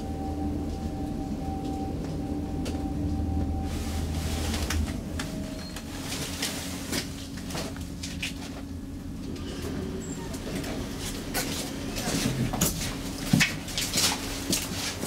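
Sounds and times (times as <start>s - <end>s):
elevator hum and whine: 0.0s - 15.0s.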